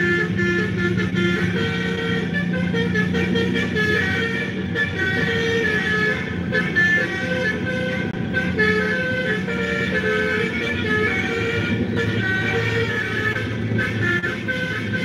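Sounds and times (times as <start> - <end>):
horn playing a melody: 0.0 - 15.0
low vehicle engine hum: 0.0 - 15.0.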